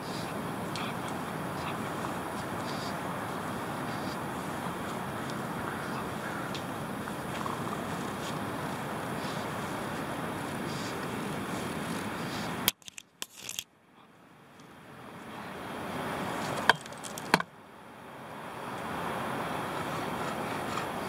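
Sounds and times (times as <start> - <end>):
rushing outdoor background noise: 0.0 - 21.0.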